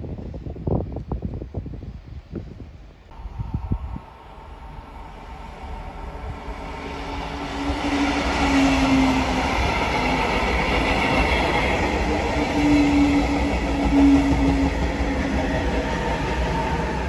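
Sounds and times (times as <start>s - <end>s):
train running past: 3.1s - 17.0s.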